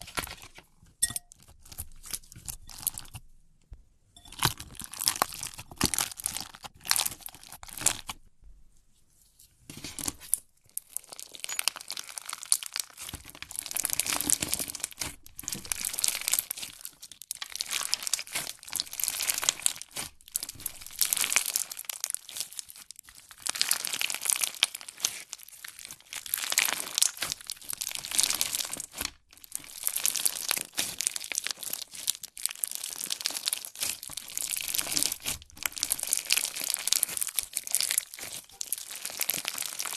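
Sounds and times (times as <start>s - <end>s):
slime crackling: 4.3s - 8.2s, 10.8s - 39.9s.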